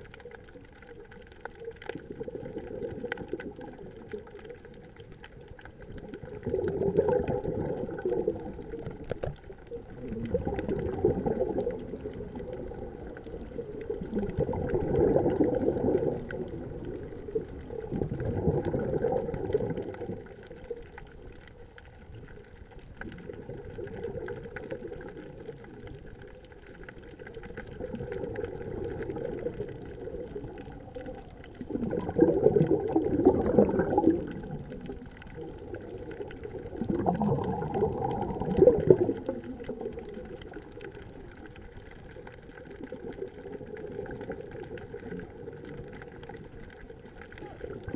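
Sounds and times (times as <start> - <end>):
underwater bubbles gurgling: 0.0 - 47.9.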